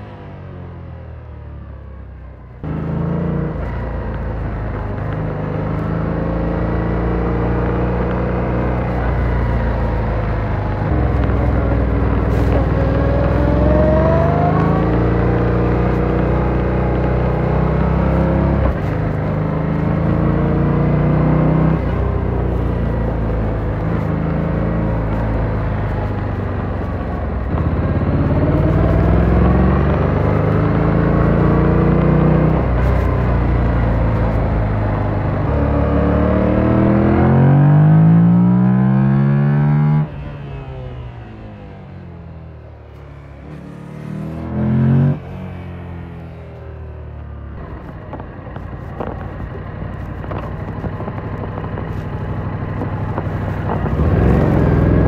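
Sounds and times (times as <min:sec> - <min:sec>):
motorcycle engine revving: 0:02.6 - 0:55.0.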